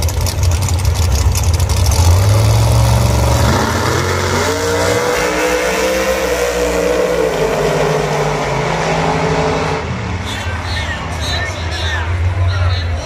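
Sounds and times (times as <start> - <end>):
racing car engines accelerating: 0.8 - 13.0.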